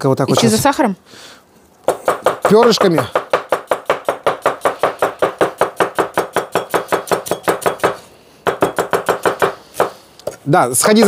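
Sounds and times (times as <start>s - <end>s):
knife chopping on wooden board: 1.8s - 11.0s.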